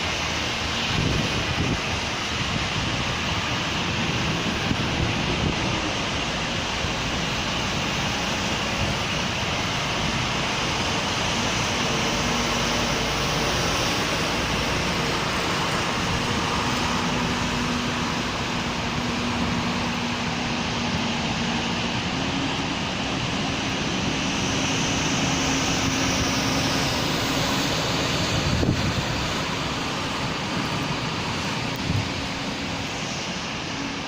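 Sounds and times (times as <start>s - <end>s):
steady rain: 0.0s - 34.0s
traffic passing on wet road: 0.0s - 34.0s.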